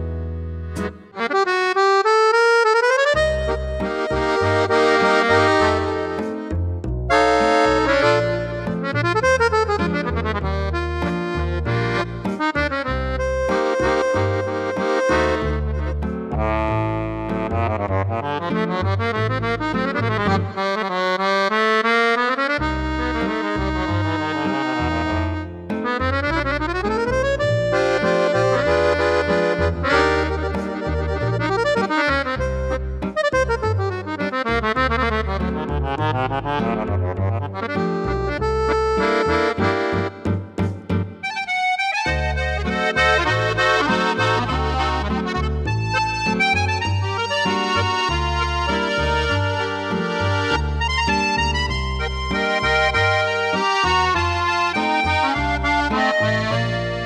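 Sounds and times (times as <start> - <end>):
accordion playing: 0.0 - 57.0.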